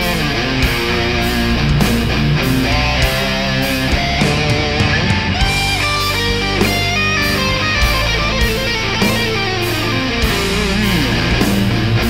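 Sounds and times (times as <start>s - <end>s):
bass guitar: 0.0s - 12.0s
distorted electric guitars: 0.0s - 12.0s
drum beat with cymbals: 0.0s - 12.0s.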